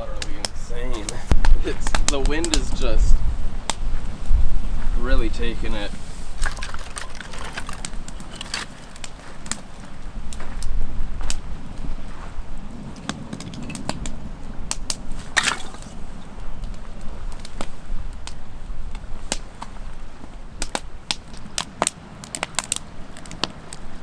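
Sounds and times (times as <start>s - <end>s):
campfire crackling: 0.0s - 24.0s
fire popping: 0.0s - 24.0s
wind rumble on microphone: 0.0s - 24.0s.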